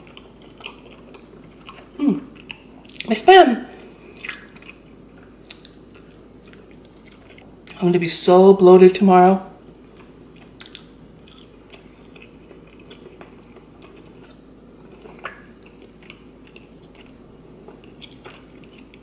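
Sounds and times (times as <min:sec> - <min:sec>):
person chewing noodles: 0:00.0 - 0:03.1, 0:03.8 - 0:07.8, 0:09.8 - 0:19.0.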